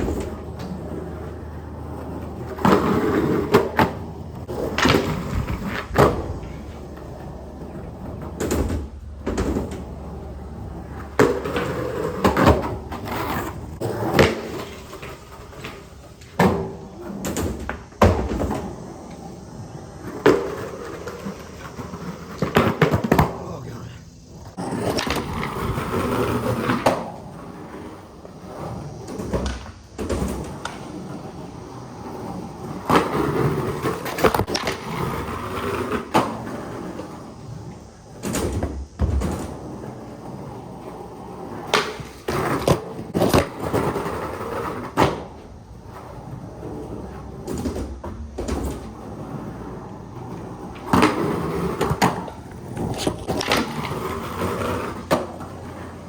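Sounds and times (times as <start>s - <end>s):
skateboard clacks and impacts: 0.0s - 56.0s
skateboard rolling on concrete: 0.0s - 56.0s.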